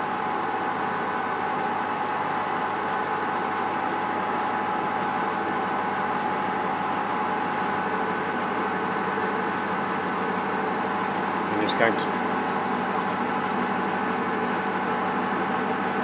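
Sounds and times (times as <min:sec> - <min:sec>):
metal lathe running: 0:01.2 - 0:16.0.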